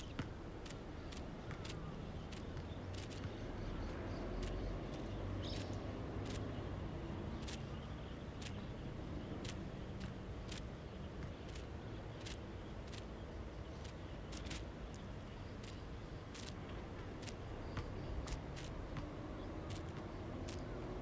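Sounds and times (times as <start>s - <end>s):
sharp irregular ticks: 0.0s - 21.0s.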